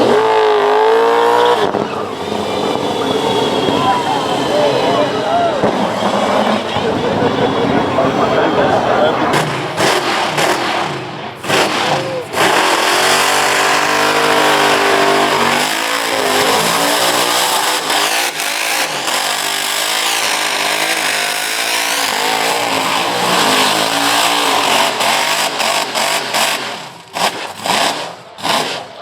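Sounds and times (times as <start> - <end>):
car engine revving: 0.0 - 29.0
spinning tyres hissing: 0.0 - 29.0.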